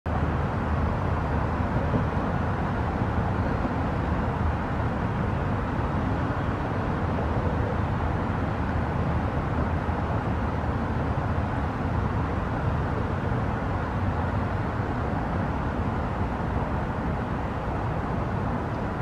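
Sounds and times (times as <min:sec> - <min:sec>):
low rushing background noise: 0:00.1 - 0:19.0.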